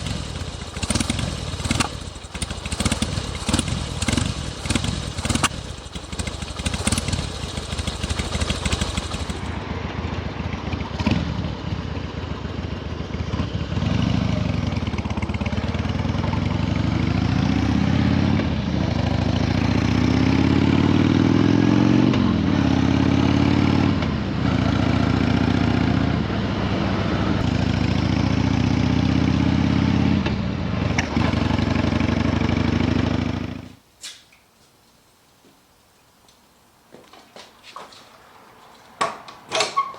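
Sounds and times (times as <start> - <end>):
motorcycle engine revving: 0.0 - 33.8.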